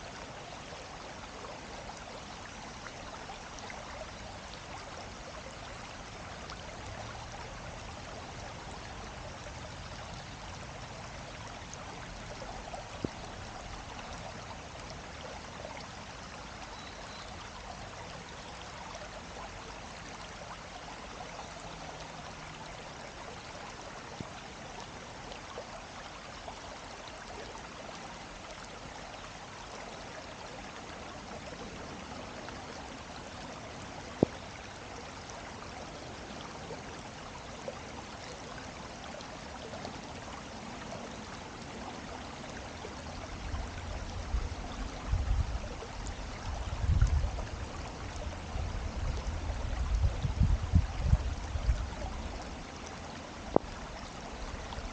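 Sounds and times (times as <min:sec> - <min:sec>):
running water rushing: 0:00.0 - 0:54.9.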